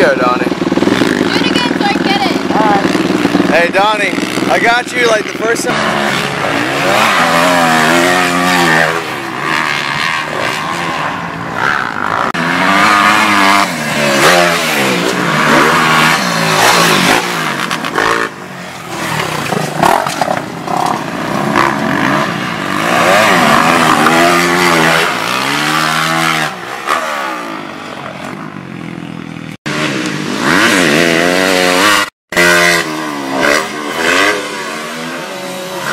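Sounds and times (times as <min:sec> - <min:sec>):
dirt bike engines revving: 0:00.0 - 0:35.9.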